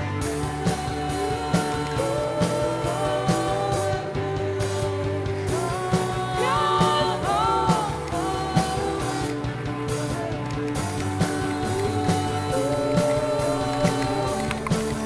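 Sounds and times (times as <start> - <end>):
rock music with singing: 0.0 - 15.0
gliding vocal notes: 0.2 - 15.0.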